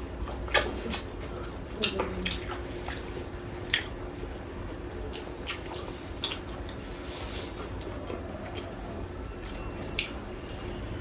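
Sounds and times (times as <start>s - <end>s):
wet chewing and lip-smacking: 0.1s - 10.4s.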